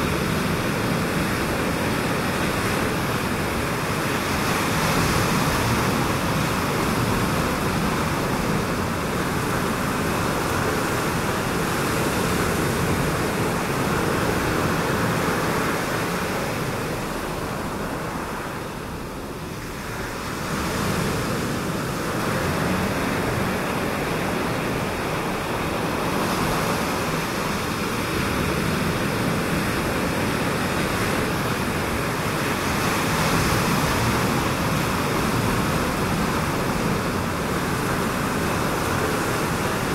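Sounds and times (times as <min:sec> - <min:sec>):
ocean surf washing on reef: 0:00.0 - 0:39.9.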